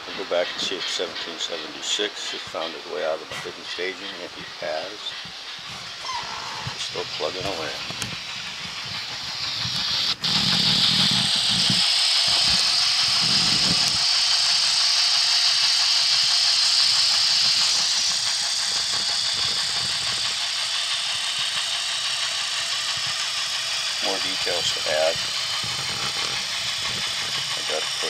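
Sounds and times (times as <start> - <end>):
steam engine sound from small speaker: 0.0 - 28.0.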